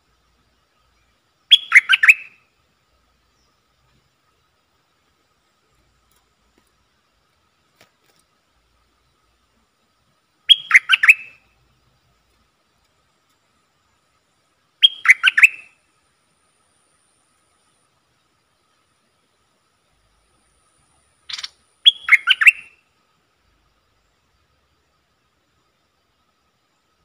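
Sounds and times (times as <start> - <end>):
bird singing: 0.0 - 7.8, 8.6 - 27.0.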